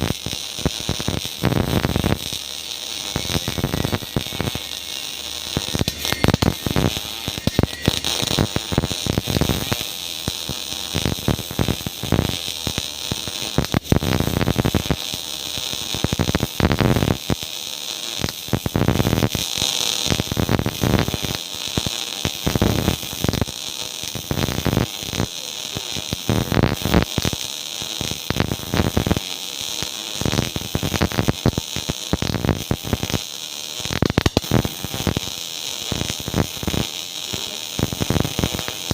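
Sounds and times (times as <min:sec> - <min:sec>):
welding arc crackling: 0:00.0 - 0:38.9.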